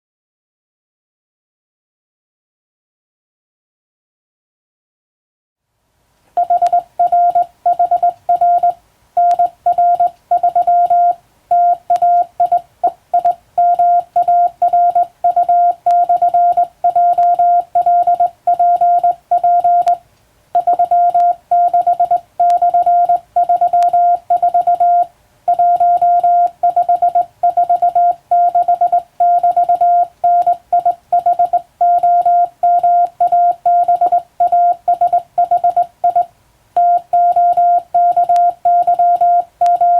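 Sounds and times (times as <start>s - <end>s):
morse code beeps: 6.4s - 20.0s, 20.6s - 39.9s.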